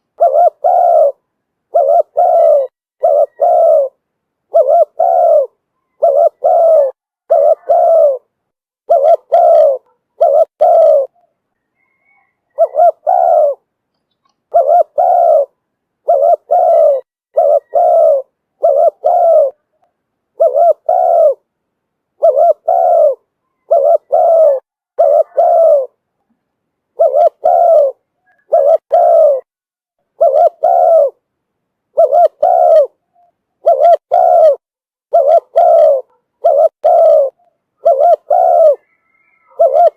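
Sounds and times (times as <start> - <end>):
dove cooing: 0.0 - 8.3, 8.9 - 13.7, 14.5 - 19.8, 20.4 - 21.5, 22.2 - 26.0, 26.9 - 29.5, 30.1 - 31.2, 31.9 - 39.9.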